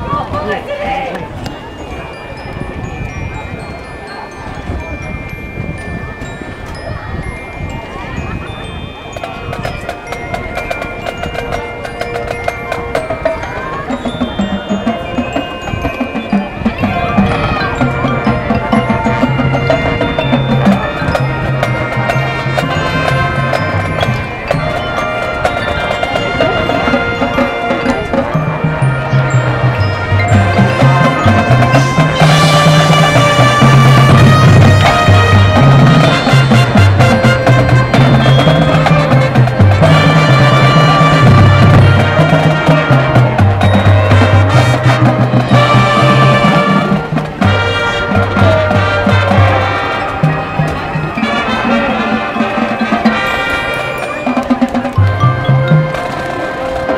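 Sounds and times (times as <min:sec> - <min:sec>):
marching band brass and winds: 0:00.0 - 0:56.9
mallet and percussion strikes: 0:01.1 - 0:56.9.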